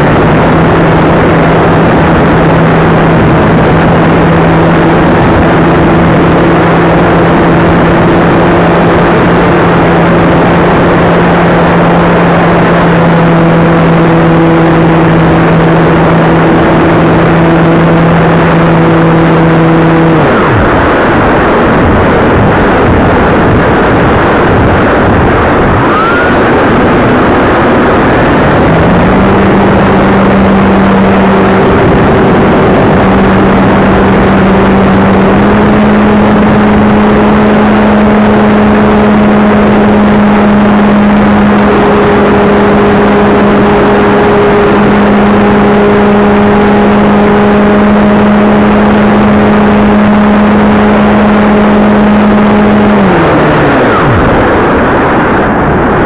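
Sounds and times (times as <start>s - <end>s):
model plane propeller hum: 0.0s - 56.0s.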